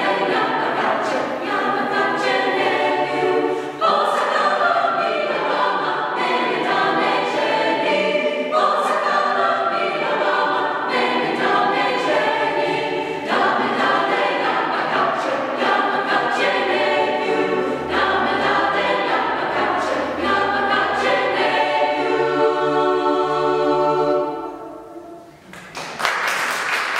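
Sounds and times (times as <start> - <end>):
choir singing a cappella: 0.0 - 25.4.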